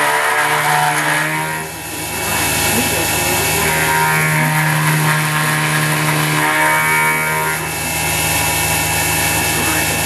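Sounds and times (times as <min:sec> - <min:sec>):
mill cutting metal whine: 0:00.0 - 0:10.0.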